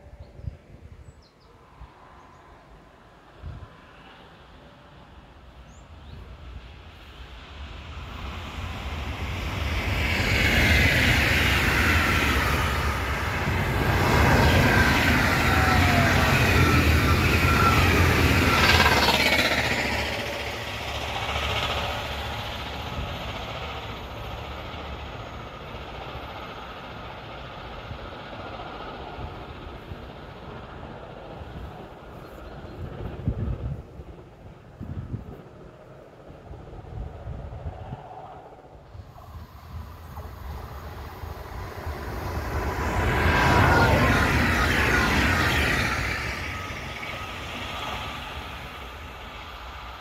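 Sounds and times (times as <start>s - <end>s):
train passing: 0.0s - 50.0s.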